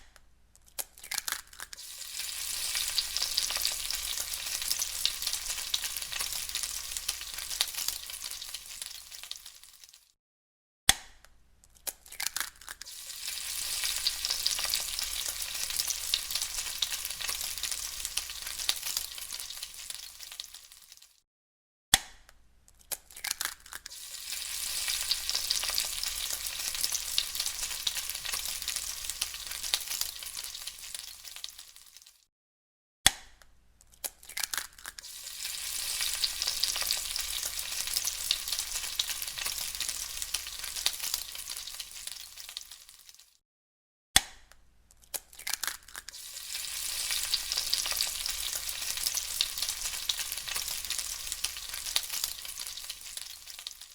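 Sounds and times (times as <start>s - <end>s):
egg sizzling in a pan: 1.1s - 10.2s, 12.1s - 21.2s, 23.2s - 32.3s, 34.4s - 43.4s, 45.4s - 53.9s.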